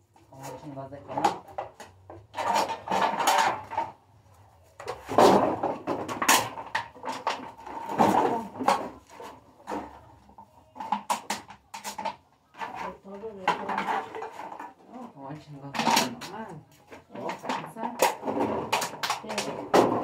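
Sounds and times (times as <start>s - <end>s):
plastic bottles and bags crinkling: 0.0s - 20.0s.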